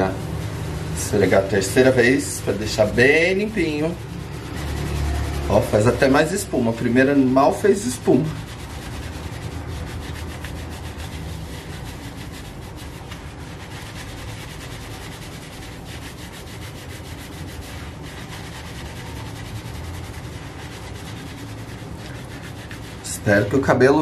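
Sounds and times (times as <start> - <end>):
fingertips scrubbing wet hair: 0.0 - 23.7.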